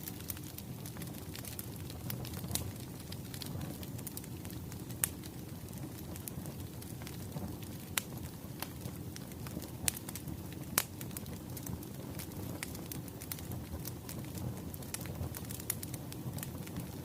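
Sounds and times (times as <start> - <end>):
firewood crackling: 0.0 - 17.0.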